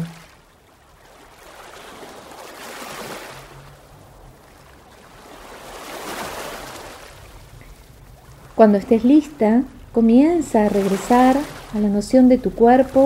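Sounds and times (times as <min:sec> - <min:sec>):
ocean waves washing in: 0:00.0 - 0:13.0.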